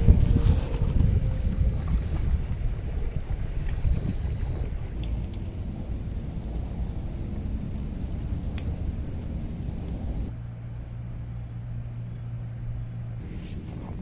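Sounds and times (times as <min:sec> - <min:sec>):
low hum: 0:00.0 - 0:14.0
low outdoor rumble: 0:00.0 - 0:14.0.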